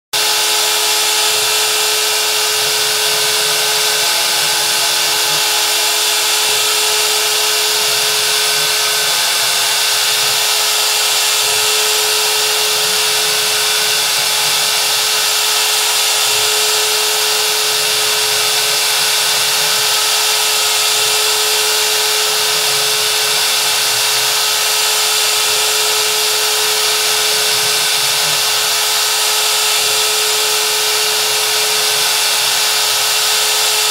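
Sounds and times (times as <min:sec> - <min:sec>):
router bit cutting wood: 0:00.1 - 0:33.9
router spindle whining: 0:00.1 - 0:33.9.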